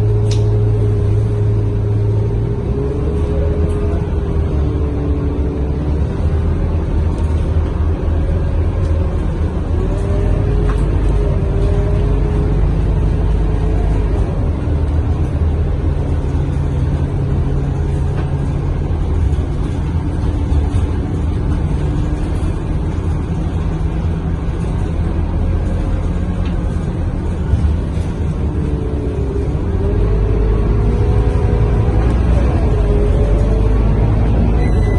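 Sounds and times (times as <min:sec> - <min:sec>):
bus diesel engine rumble: 0:00.0 - 0:34.9
drivetrain whine: 0:00.0 - 0:34.9.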